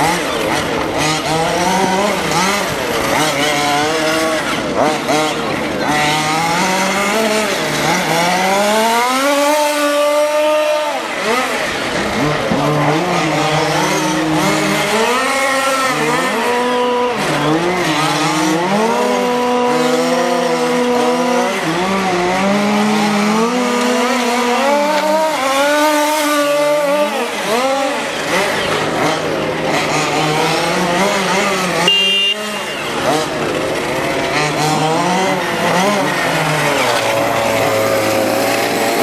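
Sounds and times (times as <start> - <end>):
rc car engines revving: 0.0 - 39.0.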